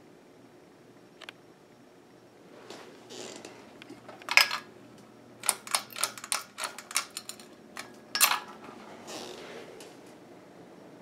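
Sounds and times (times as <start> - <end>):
ceiling fan hum: 0.0 - 11.0.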